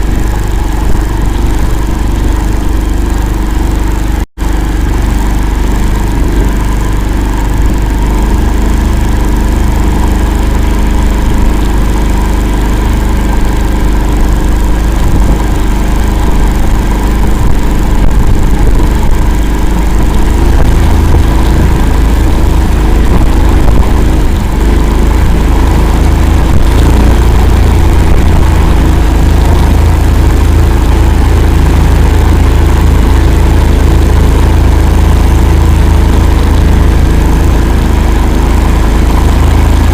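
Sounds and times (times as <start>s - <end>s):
all-terrain vehicle engine running: 0.0s - 39.9s.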